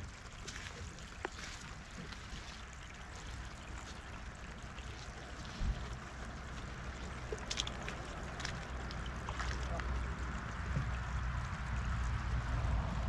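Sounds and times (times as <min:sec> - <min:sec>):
waves lapping shore: 0:00.0 - 0:10.6.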